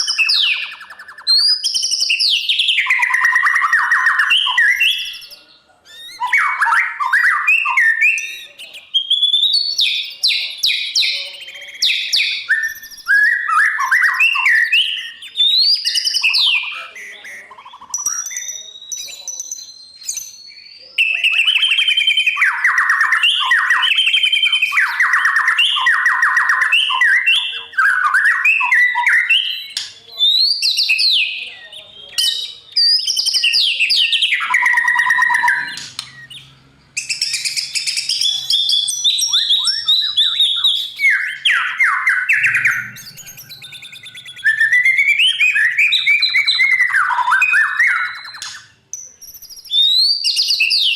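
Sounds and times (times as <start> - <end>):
bird singing whistled phrases: 0.0 - 50.9.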